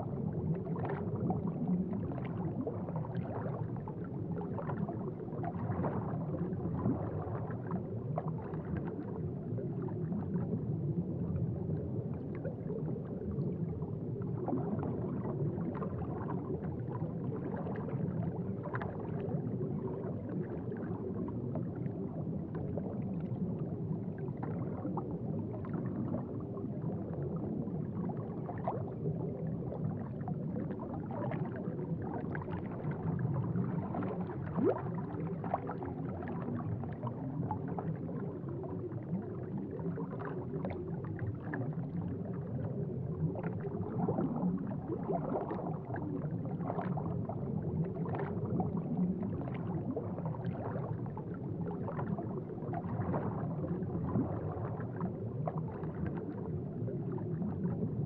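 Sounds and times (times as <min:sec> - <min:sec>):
aquarium water bubbling: 0:00.0 - 0:58.0.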